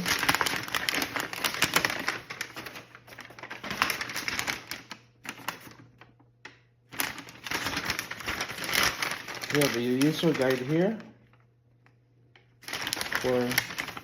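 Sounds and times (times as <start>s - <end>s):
paper and packaging crinkling: 0.0s - 6.2s, 6.9s - 11.5s, 12.6s - 14.0s.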